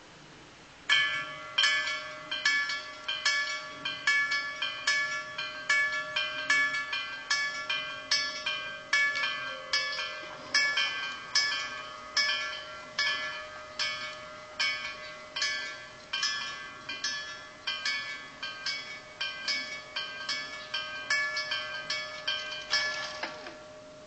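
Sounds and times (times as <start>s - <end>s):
level crossing warning bells: 0.9s - 24.0s.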